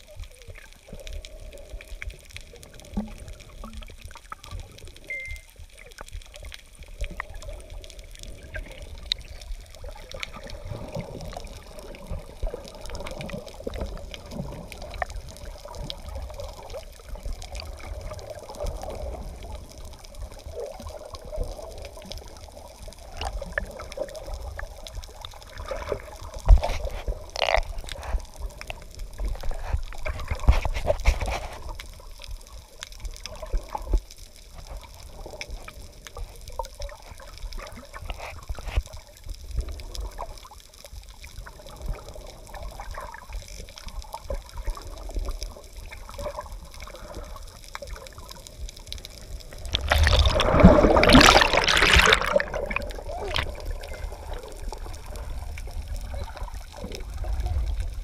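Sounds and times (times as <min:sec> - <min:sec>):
muffled underwater water rumbling: 0:00.0 - 0:58.0.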